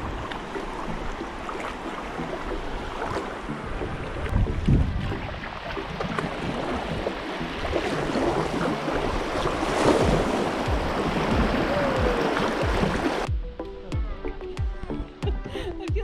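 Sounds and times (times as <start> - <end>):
river water rushing: 0.0 - 13.3
wind buffeting microphone: 0.0 - 13.3.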